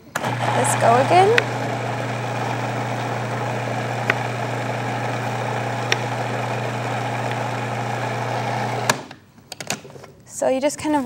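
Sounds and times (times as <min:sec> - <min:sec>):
food processor motor running: 0:00.0 - 0:09.1.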